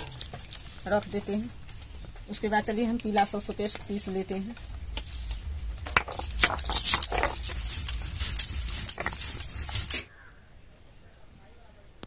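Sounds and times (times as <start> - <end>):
stone grinding seeds: 0.0 - 10.1.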